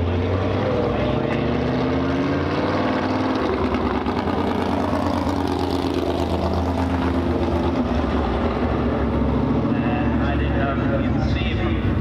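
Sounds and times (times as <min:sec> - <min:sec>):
race car engine running: 0:00.0 - 0:12.0.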